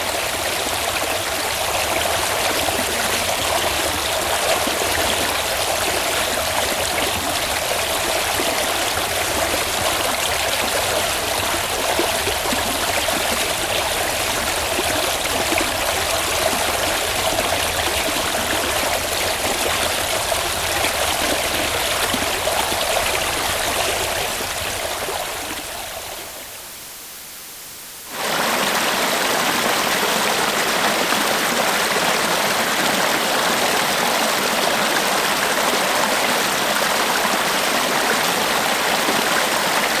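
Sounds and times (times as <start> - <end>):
river water flowing: 0.0 - 26.5, 28.1 - 40.0.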